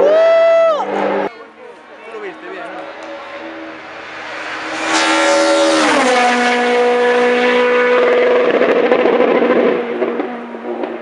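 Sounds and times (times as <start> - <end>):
race car engine passing at high revs: 0.4 - 11.0.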